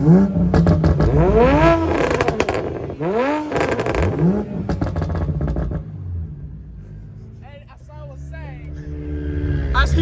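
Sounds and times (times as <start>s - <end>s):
car engine revving: 0.0s - 10.0s
exhaust crackling: 0.0s - 10.0s.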